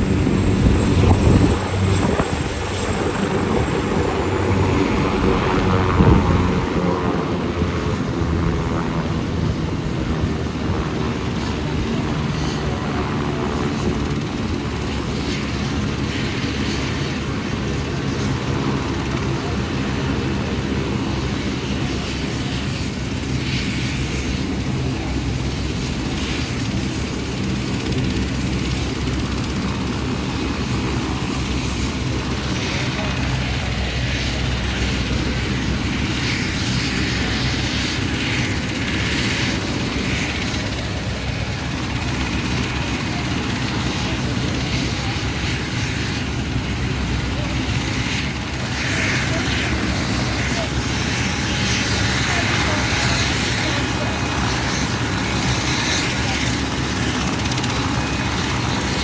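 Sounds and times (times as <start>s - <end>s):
helicopter engine and rotor: 0.0s - 59.0s.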